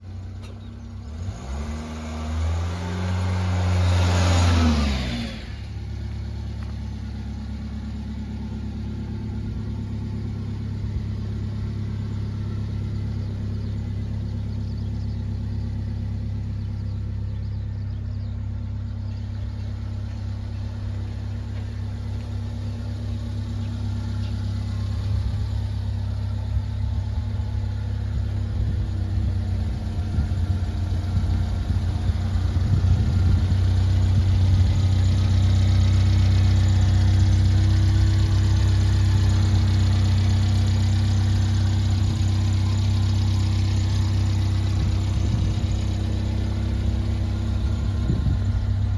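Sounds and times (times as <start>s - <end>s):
truck engine revving then idling: 0.4s - 48.9s.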